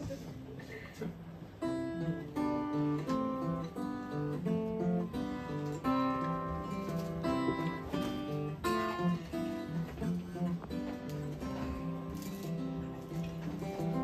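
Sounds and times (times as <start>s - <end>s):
acoustic guitar strumming: 1.1s - 14.0s.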